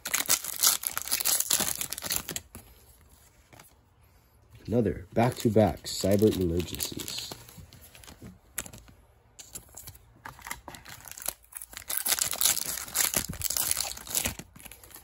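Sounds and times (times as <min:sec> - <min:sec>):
foil wrapper crinkling and tearing: 0:00.0 - 0:02.6, 0:05.2 - 0:15.0.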